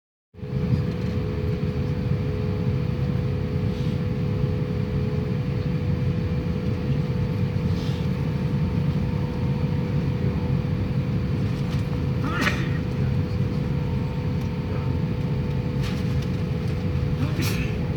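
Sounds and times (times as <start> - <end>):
jet engines rumbling: 0.4 - 17.9
steady hum: 0.4 - 17.9.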